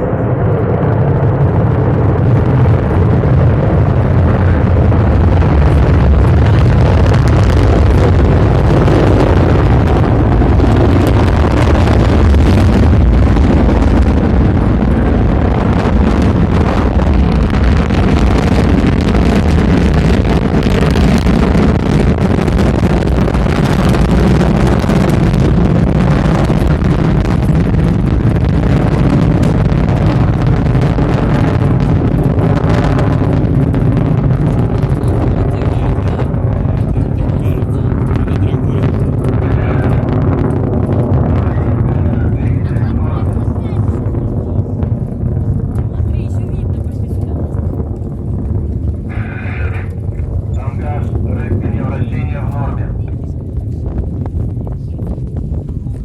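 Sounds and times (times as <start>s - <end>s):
rocket engines rumbling: 0.0s - 56.0s.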